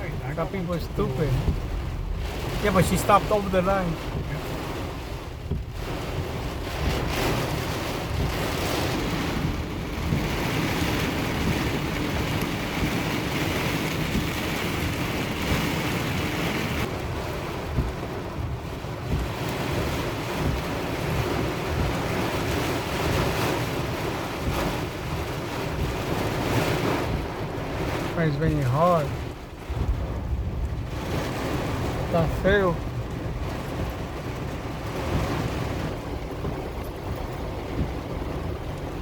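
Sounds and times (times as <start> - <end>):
heavy rain on car: 0.0 - 39.0.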